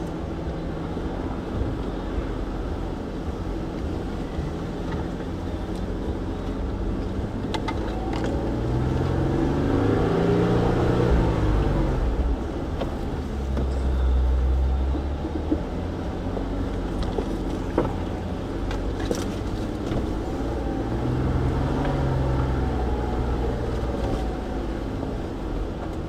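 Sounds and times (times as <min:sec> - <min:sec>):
engine running at crawling speed: 0:00.0 - 0:26.0.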